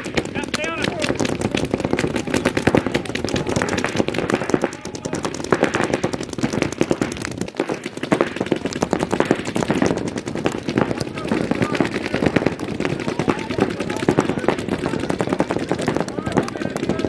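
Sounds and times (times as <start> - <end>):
paintball markers firing rapidly: 0.0 - 17.0.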